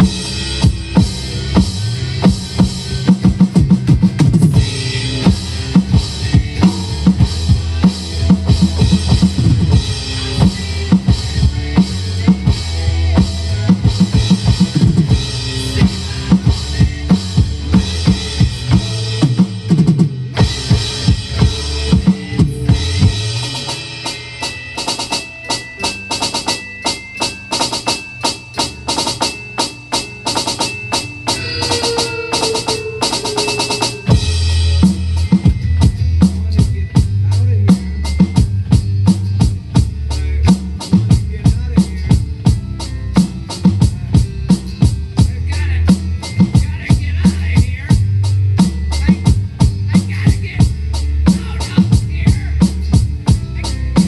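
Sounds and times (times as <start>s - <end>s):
electronic drum kit played fast: 0.0s - 54.0s
recorded rock song: 0.0s - 54.0s.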